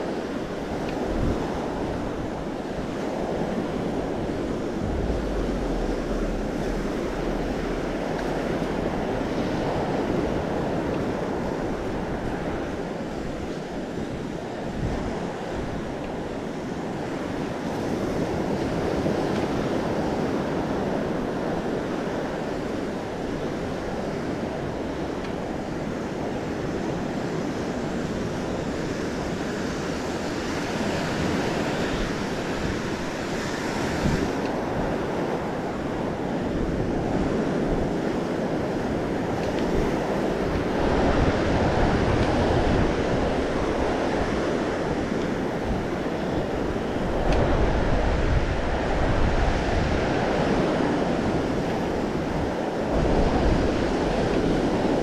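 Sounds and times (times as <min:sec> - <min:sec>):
ocean waves breaking: 0:00.0 - 0:55.0
wind on microphone: 0:00.0 - 0:55.0.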